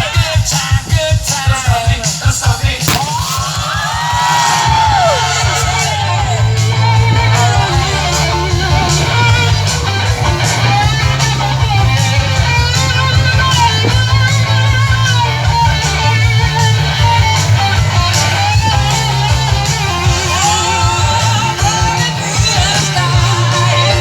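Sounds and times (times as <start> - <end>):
guitar: 0.0 - 24.0
heavy bass: 2.9 - 24.0
loud live music: 2.9 - 24.0.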